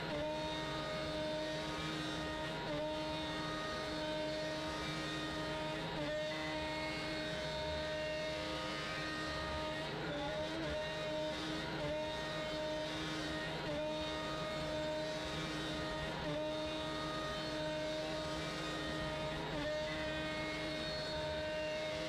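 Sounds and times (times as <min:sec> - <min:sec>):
router milling wood whine: 0:00.0 - 0:22.0.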